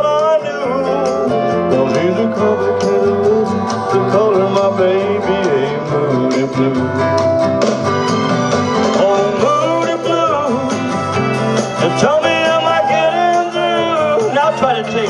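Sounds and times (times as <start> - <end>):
man singing: 0.0 - 7.4, 8.7 - 15.0
country rock guitar accompaniment: 0.0 - 15.0.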